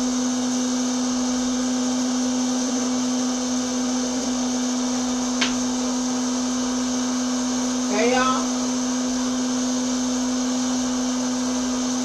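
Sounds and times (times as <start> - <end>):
popcorn maker motor humming: 0.0 - 12.0.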